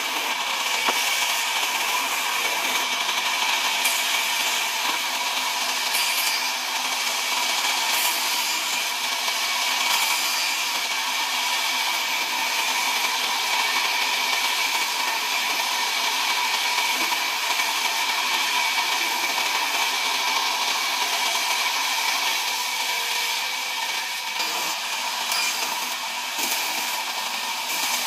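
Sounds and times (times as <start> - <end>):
band saw cutting timber: 0.0 - 28.0.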